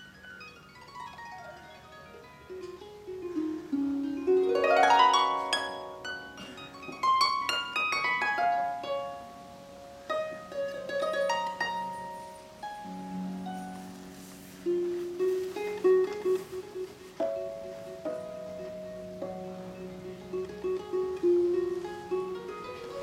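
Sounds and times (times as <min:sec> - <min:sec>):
harp plucked notes: 0:00.0 - 0:23.0.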